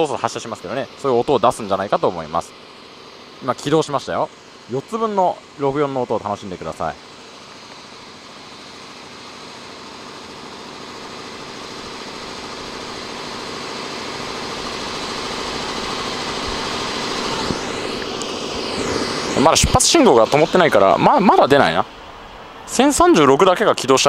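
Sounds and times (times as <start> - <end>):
locomotive blowers humming: 0.0 - 24.0.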